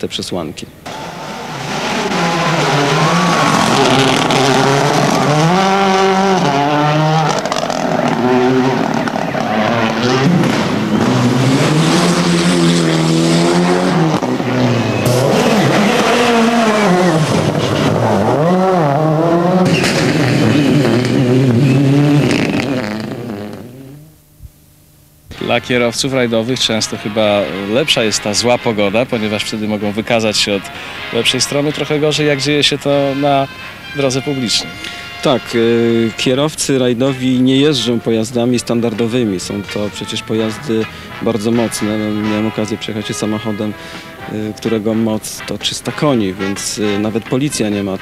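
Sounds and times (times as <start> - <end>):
rally car engines revving: 0.8 - 24.2, 25.4 - 45.1.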